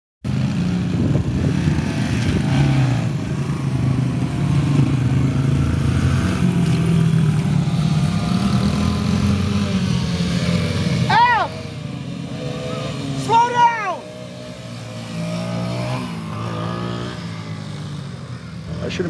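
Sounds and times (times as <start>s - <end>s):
dirt bike engines revving: 0.3s - 19.0s.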